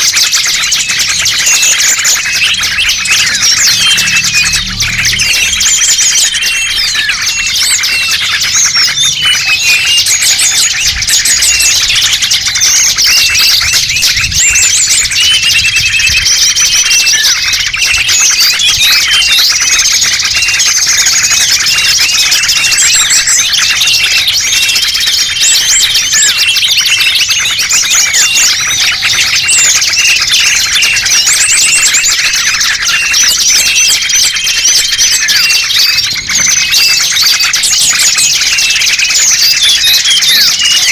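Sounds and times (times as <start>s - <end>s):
songbirds chirping chorus: 0.0s - 40.9s.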